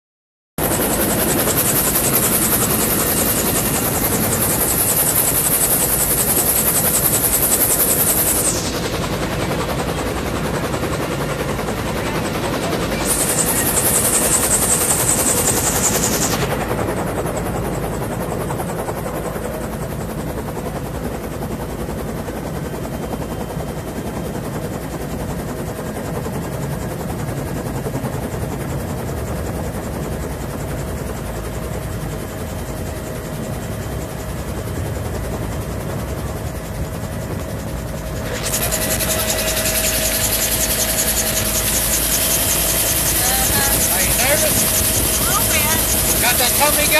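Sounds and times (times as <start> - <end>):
helicopter engine and rotor: 0.6 - 46.9.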